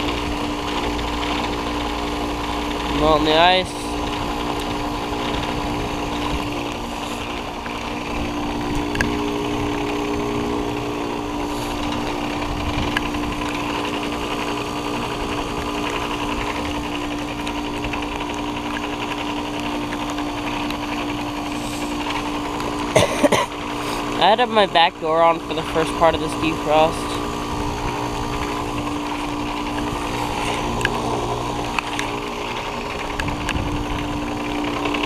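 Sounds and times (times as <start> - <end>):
heat pump machine hum: 0.0 - 35.0.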